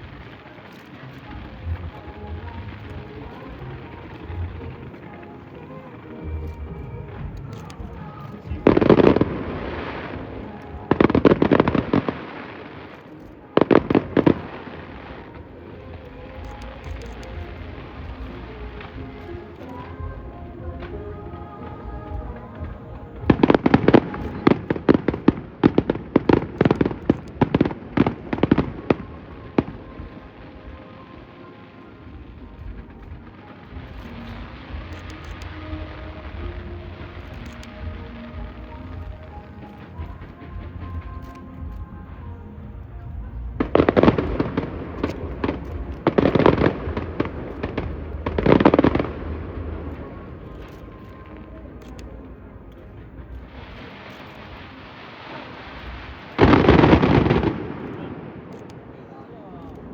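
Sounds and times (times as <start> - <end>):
fireworks bangs and cracks: 0.0 - 30.9, 31.6 - 59.0.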